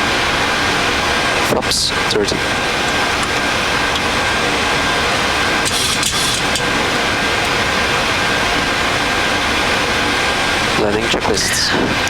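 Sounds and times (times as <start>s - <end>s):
cockpit airflow and air conditioning: 0.0s - 12.0s.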